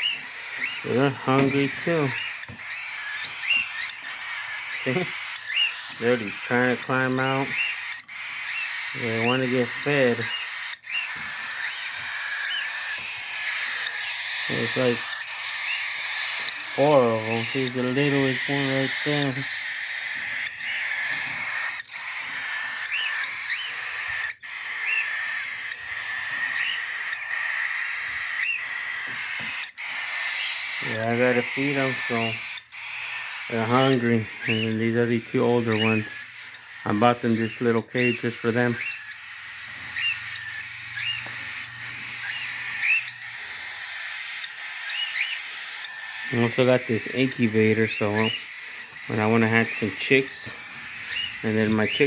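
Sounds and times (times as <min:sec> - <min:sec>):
parakeet chicks chirping: 0:00.0 - 0:52.0
parakeet chicks raspy hissing: 0:00.0 - 0:52.0.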